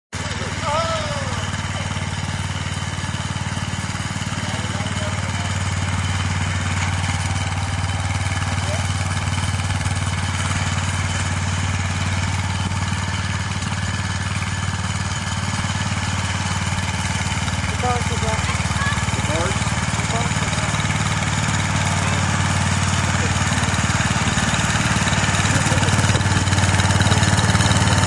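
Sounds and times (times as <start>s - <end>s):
garden tractor engine running: 0.2s - 28.0s.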